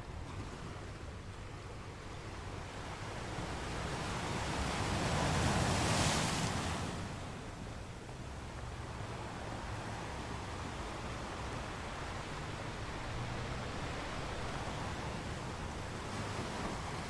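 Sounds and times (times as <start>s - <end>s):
ocean waves on sandy beach: 0.0s - 17.0s.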